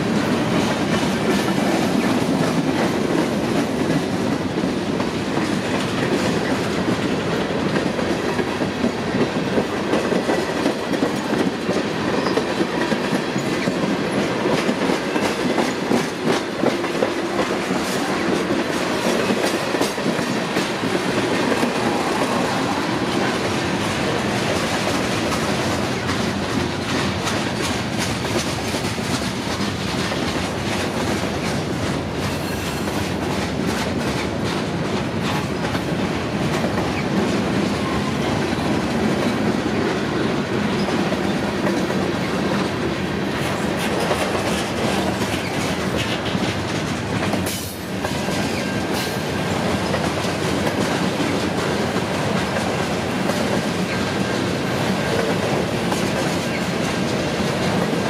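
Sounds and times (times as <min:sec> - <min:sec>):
steel wheels rumbling on rail: 0:00.0 - 0:58.0
wheels clicking over rail joints: 0:00.4 - 0:58.0.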